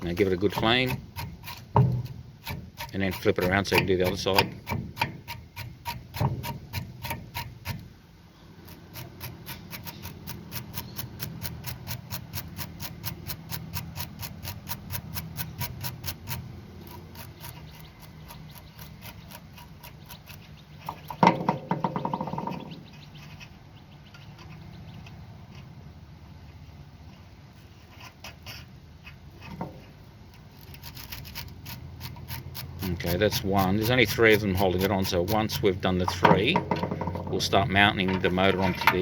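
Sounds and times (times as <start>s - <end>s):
wire brush scrubbing steel bolt: 0.0s - 7.9s, 8.6s - 23.5s, 27.8s - 39.0s.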